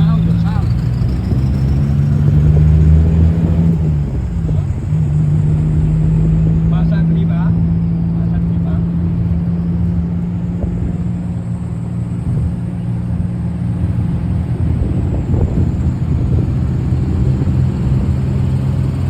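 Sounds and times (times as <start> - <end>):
running gear rumble: 0.0 - 19.0
train engine hum: 0.0 - 19.0.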